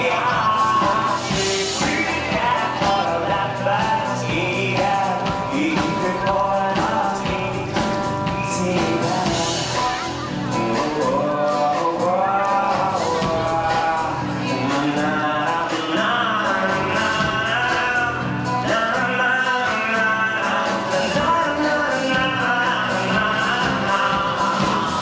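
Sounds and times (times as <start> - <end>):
song with instruments: 0.0 - 25.0.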